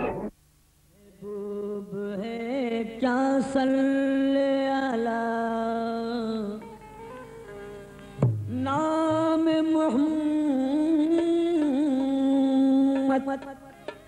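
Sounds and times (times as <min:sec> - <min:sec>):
person singing devotional melody: 0:01.0 - 0:14.0.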